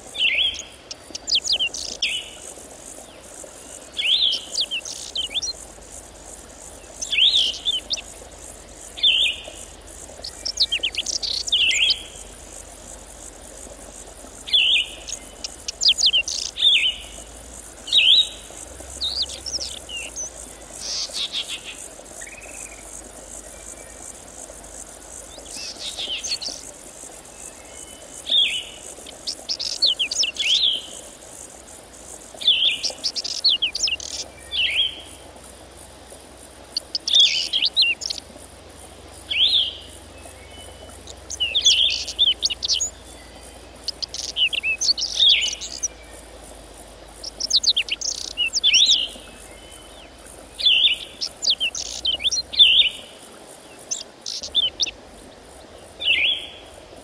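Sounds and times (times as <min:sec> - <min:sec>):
songbird singing: 0:00.0 - 0:35.1, 0:36.8 - 0:38.3, 0:39.2 - 0:55.0, 0:55.8 - 0:56.7
faint high hiss: 0:00.0 - 0:57.0.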